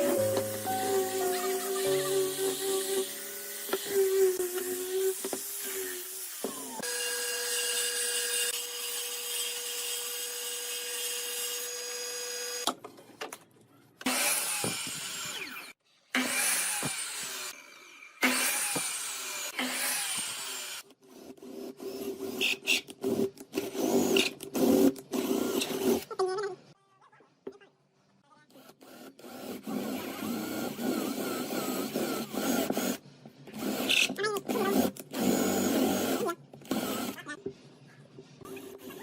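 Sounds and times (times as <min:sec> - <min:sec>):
choppy wood working noises: 0:00.0 - 0:26.6, 0:28.4 - 0:39.0.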